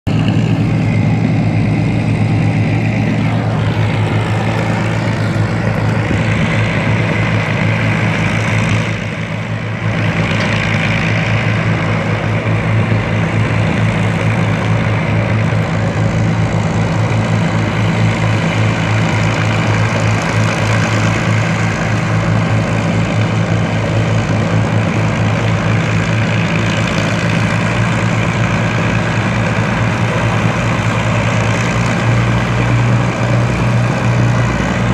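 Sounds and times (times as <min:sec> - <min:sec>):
piston aircraft engines running: 0:00.0 - 0:34.9.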